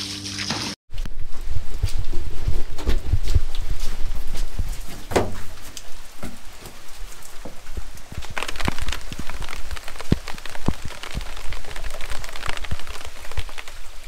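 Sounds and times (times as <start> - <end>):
rain tapping on cardboard: 1.8 - 14.0.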